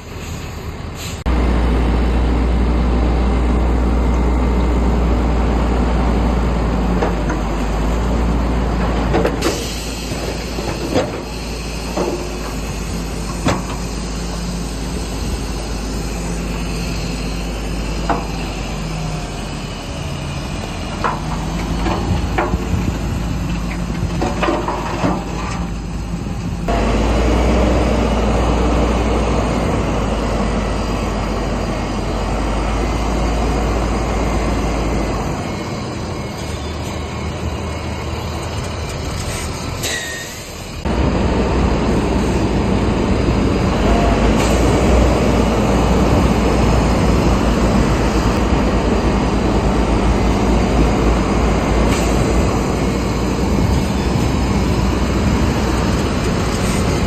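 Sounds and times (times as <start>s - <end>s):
diesel machinery rumbling: 0.0s - 57.0s.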